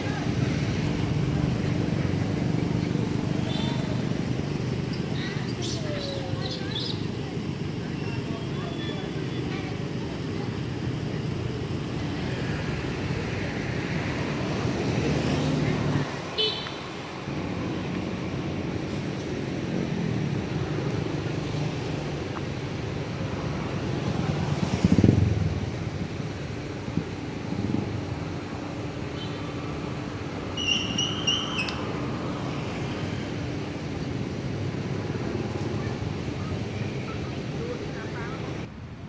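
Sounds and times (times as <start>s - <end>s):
road traffic rumble: 0.0s - 39.0s.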